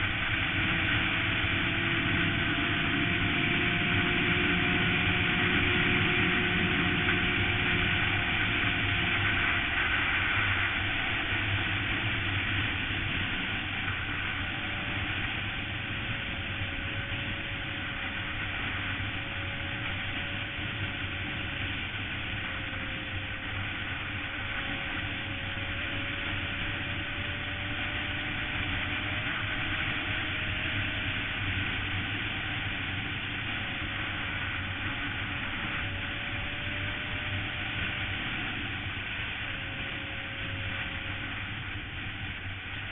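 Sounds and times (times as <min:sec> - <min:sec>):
motorcycle engine running: 0:00.0 - 0:42.9
steady rushing noise: 0:00.0 - 0:42.9.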